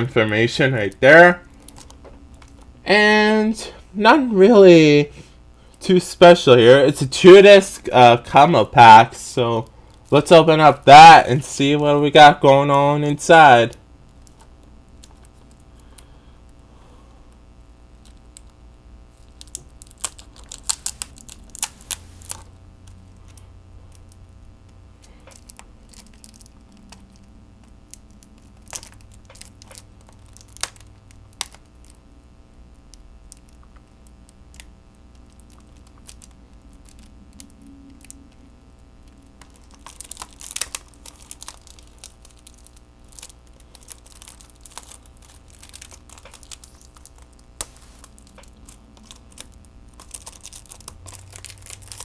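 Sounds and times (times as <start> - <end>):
plastic shrink-wrap crinkling: 0.0 - 2.7, 8.2 - 16.0, 18.0 - 32.0, 32.8 - 52.0.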